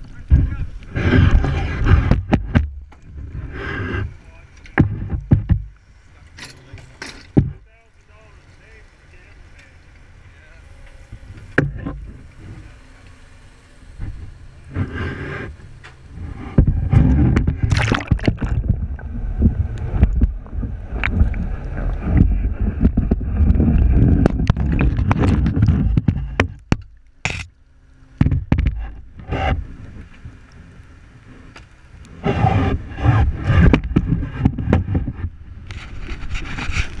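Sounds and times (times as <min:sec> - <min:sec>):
water rushing over camera housing: 0:00.0 - 0:37.0.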